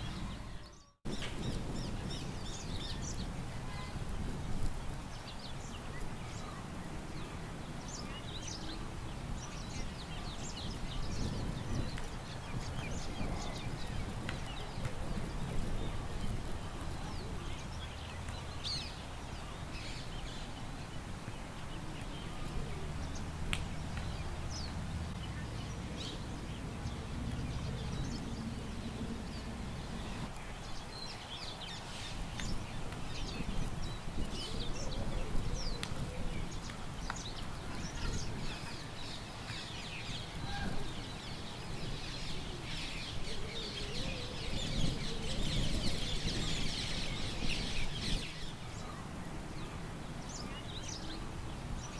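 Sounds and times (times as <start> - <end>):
low rumble of wind: 0.0 - 51.9
small birds chirping: 0.0 - 51.9.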